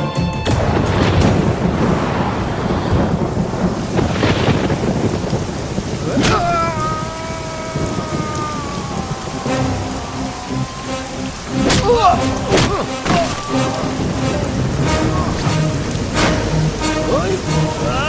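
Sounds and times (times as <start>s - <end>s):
heavy rain: 0.0s - 18.0s
sharp crack: 0.5s - 16.9s
rumbling thunder: 0.5s - 18.0s.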